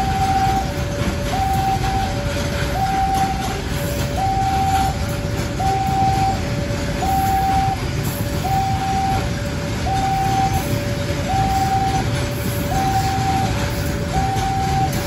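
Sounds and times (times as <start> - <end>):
freight train rumbling past: 0.0 - 15.0
level-crossing alarm two-tone signal: 0.0 - 15.0.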